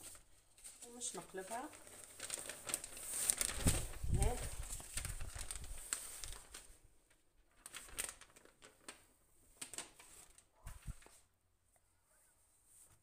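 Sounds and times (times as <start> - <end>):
baking paper rustling: 0.0 - 11.3.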